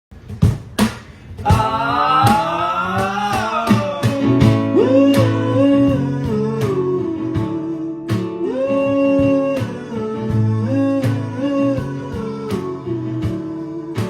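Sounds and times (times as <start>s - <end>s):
guitar strumming: 1.2s - 14.0s.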